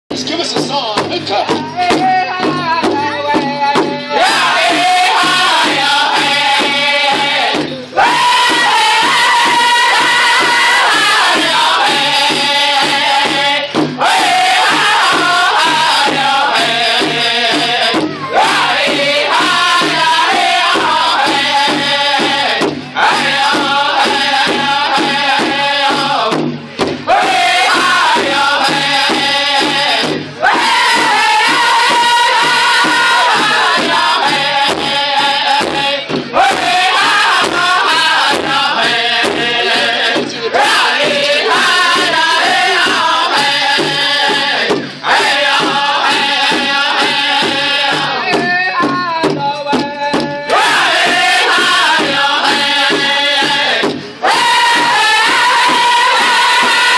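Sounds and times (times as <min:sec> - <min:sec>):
big drum beating steadily: 0:00.1 - 0:56.9
drum group chanting: 0:00.1 - 0:56.9.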